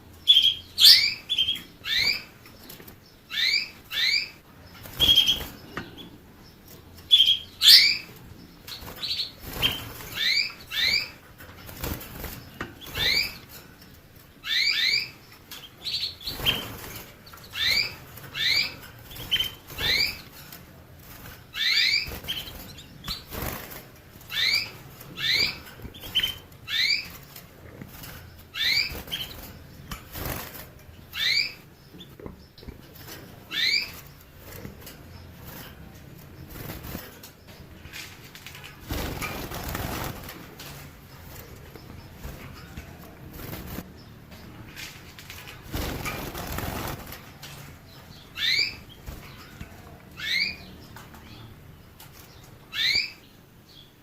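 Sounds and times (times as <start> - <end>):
canary chirping: 0.0 - 54.0.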